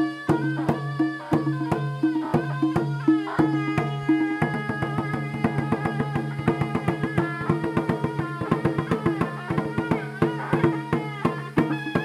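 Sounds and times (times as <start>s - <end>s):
reedy wind instrument melody: 0.0s - 12.0s.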